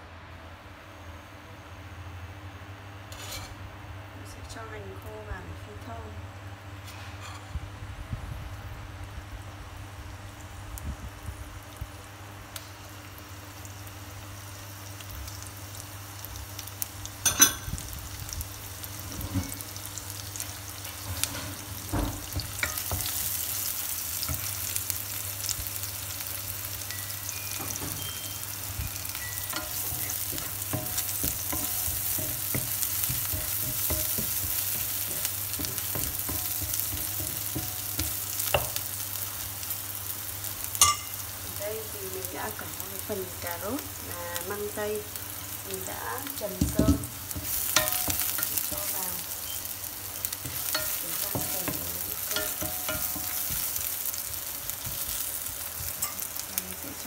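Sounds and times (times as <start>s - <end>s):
shallots sizzling in frying pan: 8.1s - 57.0s.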